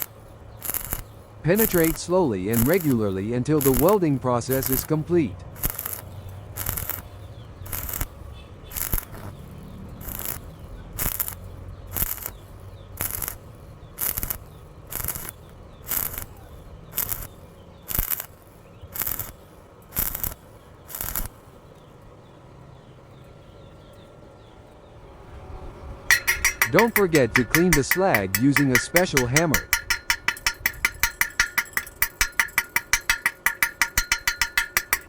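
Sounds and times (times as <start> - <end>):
stick welding arc bursts: 0.0 - 21.5, 26.1 - 35.0.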